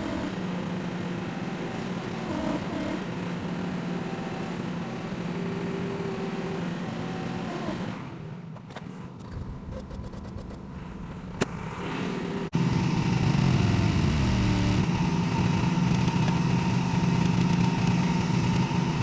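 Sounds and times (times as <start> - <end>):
small engine running: 0.0 - 8.4, 11.7 - 19.0.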